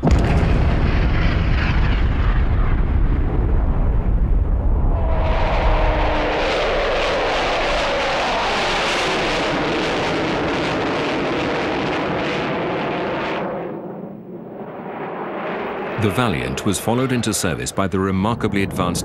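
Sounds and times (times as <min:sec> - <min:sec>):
deep rumble: 0:00.0 - 0:19.0
jet roar with falling whine: 0:00.0 - 0:19.0.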